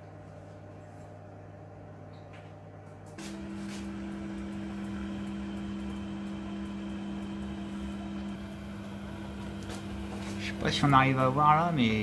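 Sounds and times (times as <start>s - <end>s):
oven humming with fan hiss: 0.0s - 12.0s.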